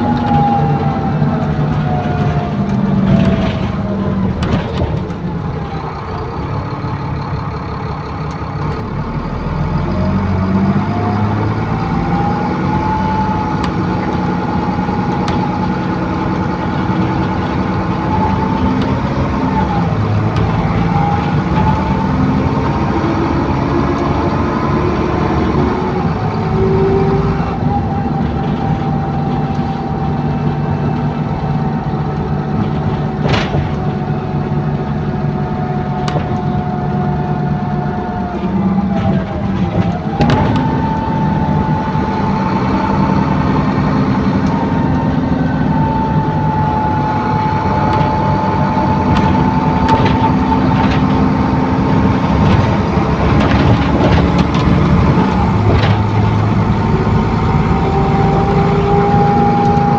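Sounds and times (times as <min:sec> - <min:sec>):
bus engine and gearbox whine: 0:00.0 - 0:59.9.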